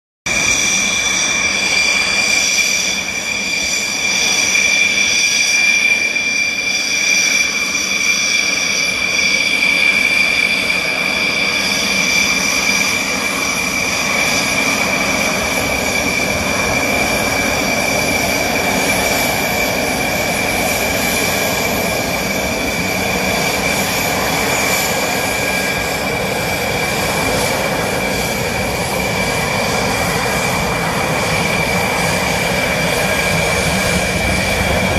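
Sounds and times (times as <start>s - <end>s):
jet engines whining: 0.3s - 34.9s.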